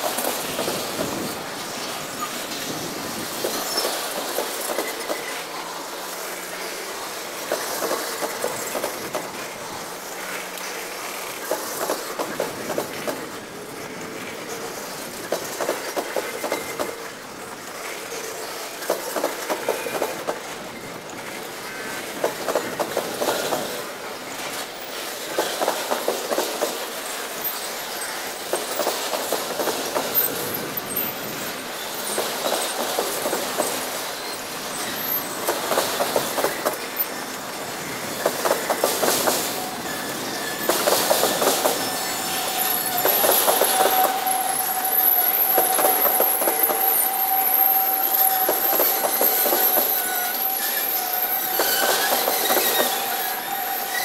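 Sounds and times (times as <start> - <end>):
freight train rolling rumble: 0.0 - 54.0.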